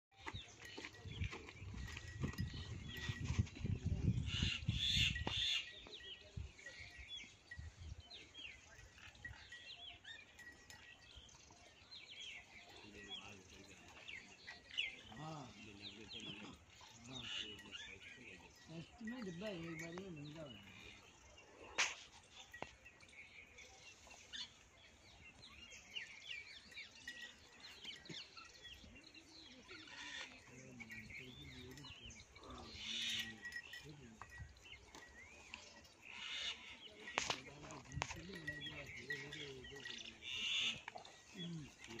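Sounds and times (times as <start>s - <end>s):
small birds chirping: 0.1s - 42.0s.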